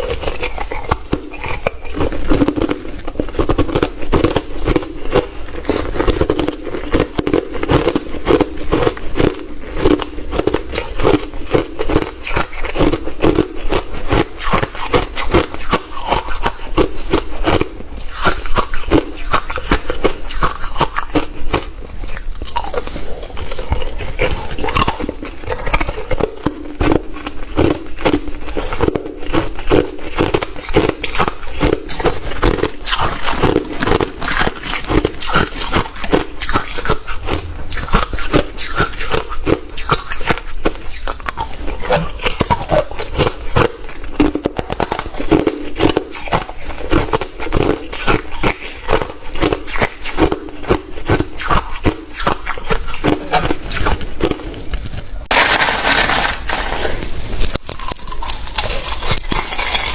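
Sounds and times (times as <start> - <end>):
person chewing crushed ice: 0.0 - 59.9.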